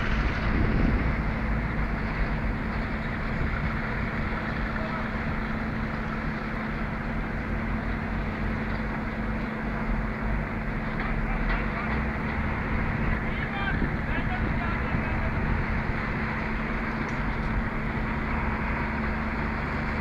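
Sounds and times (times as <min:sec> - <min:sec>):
construction site noise: 0:00.0 - 0:20.0
crane diesel engine humming: 0:00.0 - 0:20.0.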